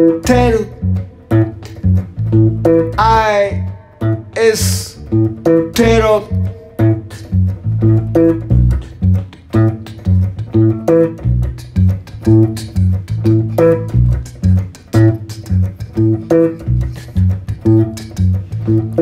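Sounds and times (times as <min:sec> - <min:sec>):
guitar playing plucked riff: 0:00.0 - 0:19.0.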